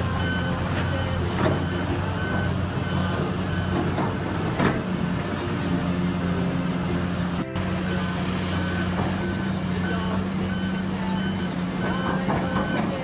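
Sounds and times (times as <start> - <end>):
heavy diesel machinery running: 0.0 - 13.0
reversing alarm beeping: 0.0 - 13.0.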